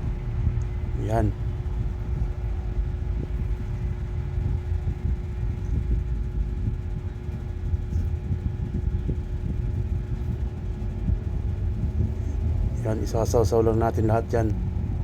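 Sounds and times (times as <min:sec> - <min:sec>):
constant hum: 0:00.0 - 0:15.0
steady low rumble: 0:00.0 - 0:15.0.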